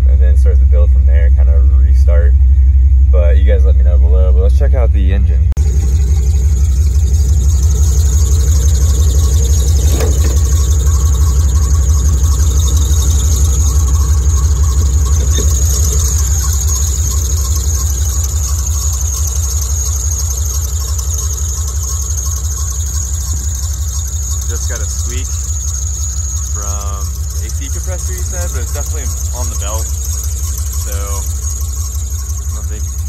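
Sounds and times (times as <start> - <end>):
car engine idling: 0.0 - 33.0
high-pitched belt squeak: 6.4 - 33.0.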